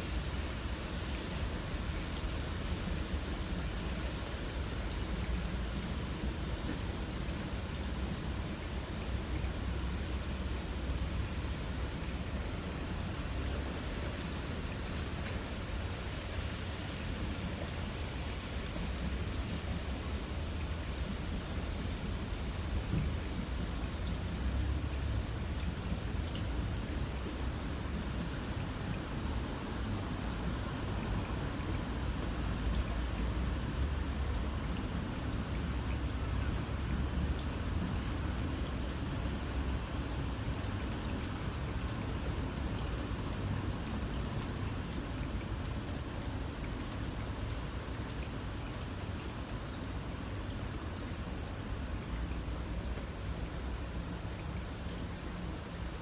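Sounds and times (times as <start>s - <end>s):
faint insect chirping: 0.0s - 56.0s
light rain hissing: 0.0s - 56.0s.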